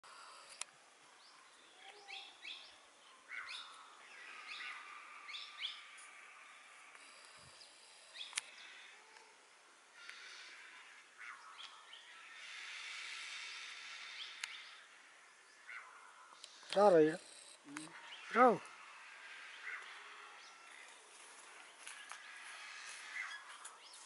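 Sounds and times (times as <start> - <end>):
background hiss: 0.0 - 24.0
small birds chirping: 0.1 - 24.0.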